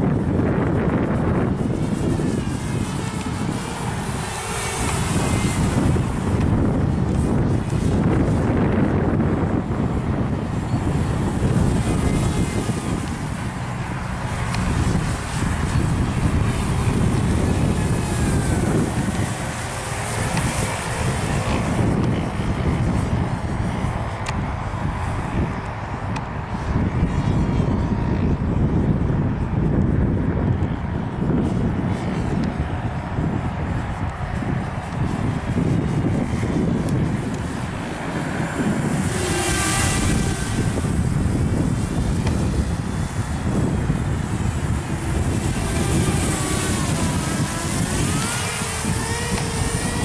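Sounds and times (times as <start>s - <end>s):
quadcopter motors whining: 0.0s - 50.0s
wind buffeting microphone: 0.0s - 50.0s.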